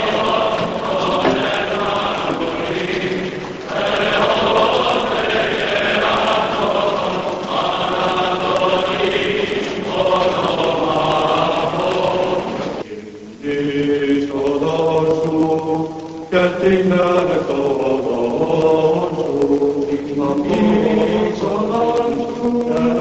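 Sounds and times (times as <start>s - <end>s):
men's choir chanting a hymn: 0.0s - 23.0s.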